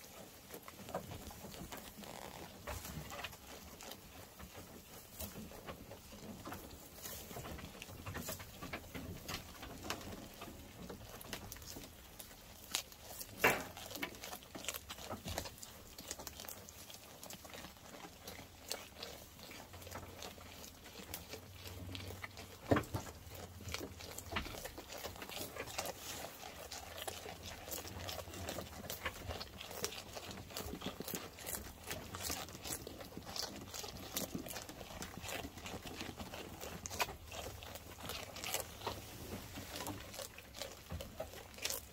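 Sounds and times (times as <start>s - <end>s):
sheep tearing and chewing grass: 0.0s - 41.9s.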